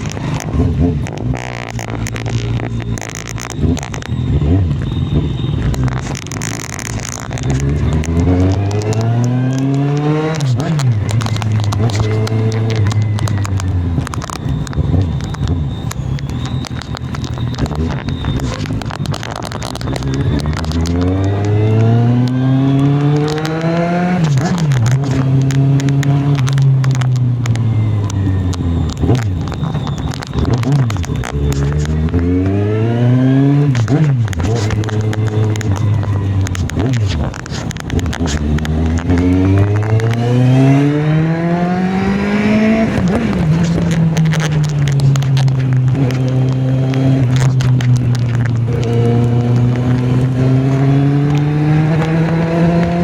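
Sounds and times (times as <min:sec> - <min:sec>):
motorcycle engine revving: 0:00.0 - 0:53.0
sharp crackles: 0:00.0 - 0:53.0.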